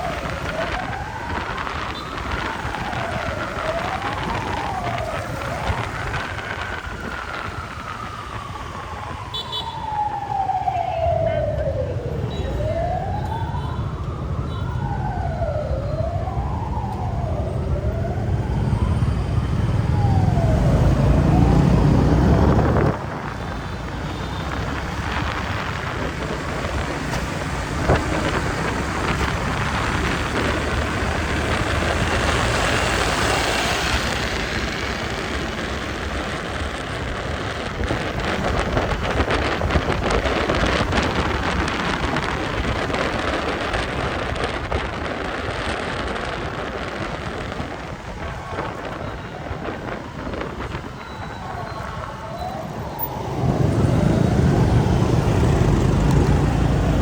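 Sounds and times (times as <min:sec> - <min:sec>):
ambulance siren wailing: 0:00.0 - 0:57.0
traffic rumble: 0:00.0 - 0:57.0.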